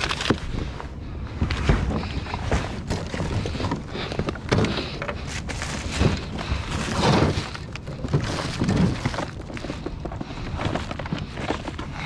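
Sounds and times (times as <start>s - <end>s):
knocks and rustles of handling: 0.0s - 12.0s.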